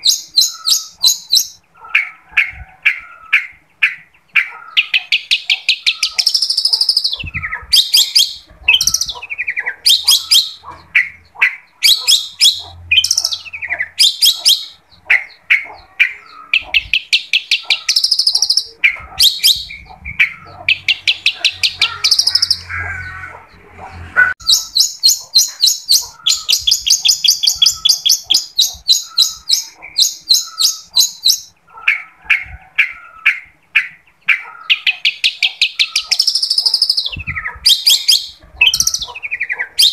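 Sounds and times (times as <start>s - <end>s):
bird singing rapid trills: 0.0s - 23.4s, 24.4s - 39.9s.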